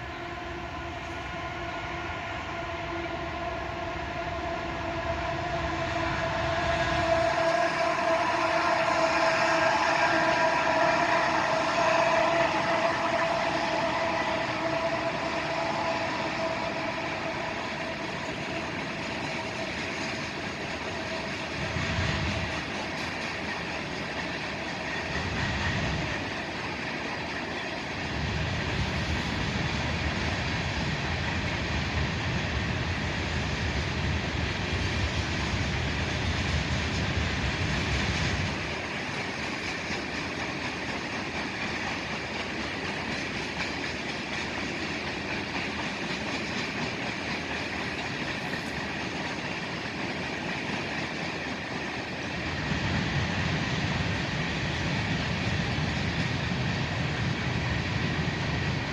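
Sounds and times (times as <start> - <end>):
freight train wheels on rails: 0.0 - 58.9.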